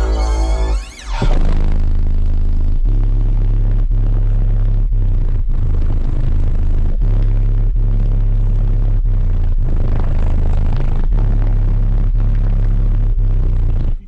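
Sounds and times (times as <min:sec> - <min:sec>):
loud deep bass music: 0:00.0 - 0:14.0.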